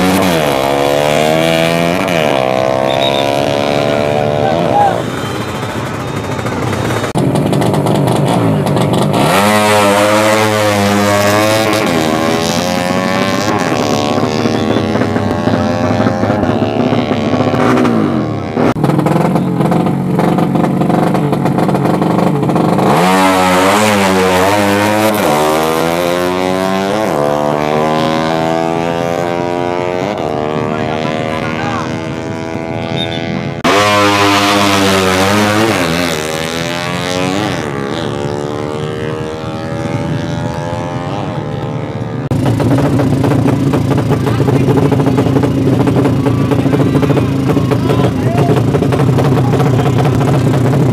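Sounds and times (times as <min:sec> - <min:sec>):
motorcycle engines accelerating: 0:00.0 - 0:50.9.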